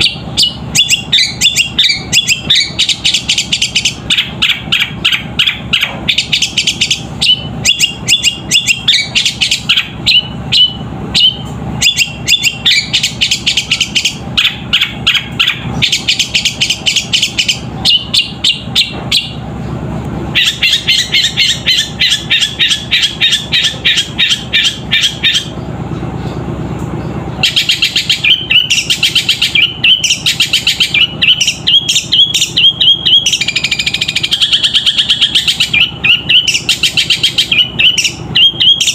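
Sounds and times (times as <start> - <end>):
bird chirping fast runs: 0.0 - 38.9.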